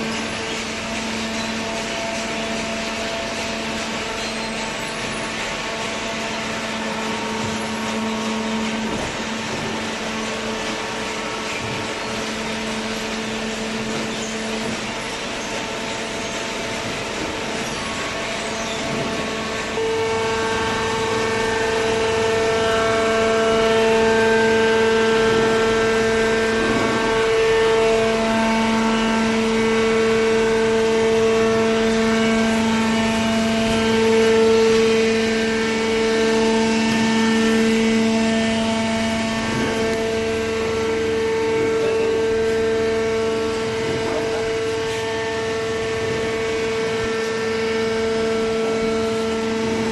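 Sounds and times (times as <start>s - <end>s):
hydraulic pump whining: 0.0s - 49.9s.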